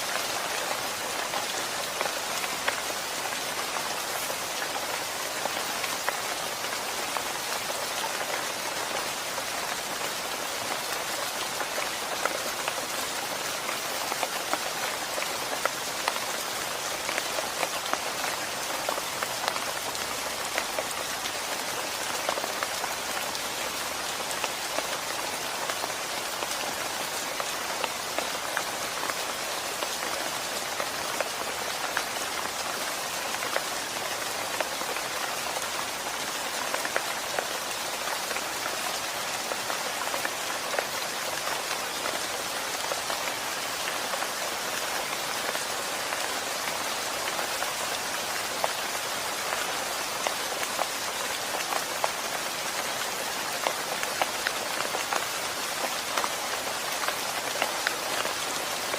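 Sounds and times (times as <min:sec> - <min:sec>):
rain drops ticking on hard surface: 0:00.0 - 0:58.9.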